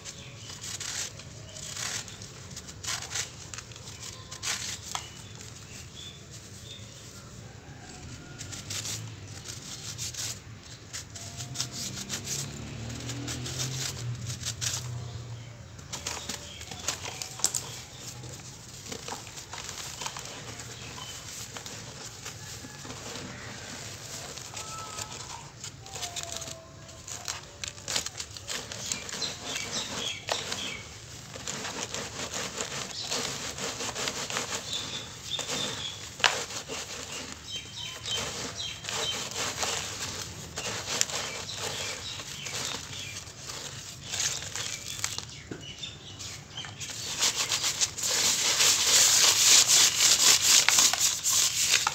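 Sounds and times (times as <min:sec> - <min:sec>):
cement crunching in a sieve: 0:00.0 - 0:51.9.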